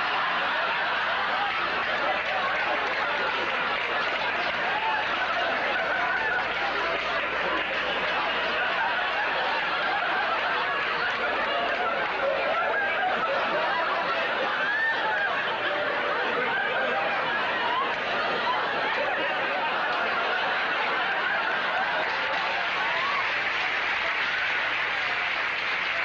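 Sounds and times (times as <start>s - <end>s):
audience laughing: 0.0s - 26.0s.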